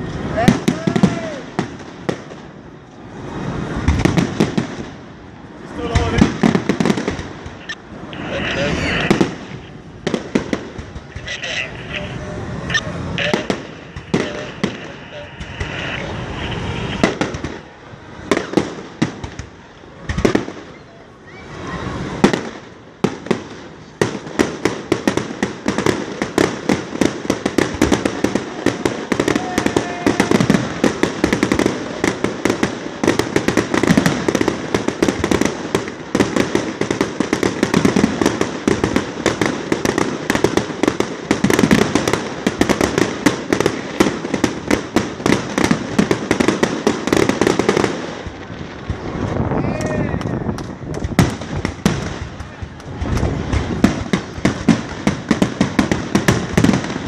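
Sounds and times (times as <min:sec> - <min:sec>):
firework bangs: 0:00.0 - 0:57.0
firework barrage and crackles: 0:00.0 - 0:57.0.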